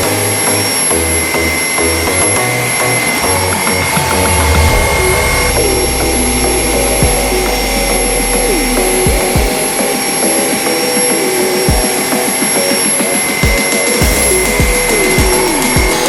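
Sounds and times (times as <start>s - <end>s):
background music with a beat: 0.0s - 16.0s.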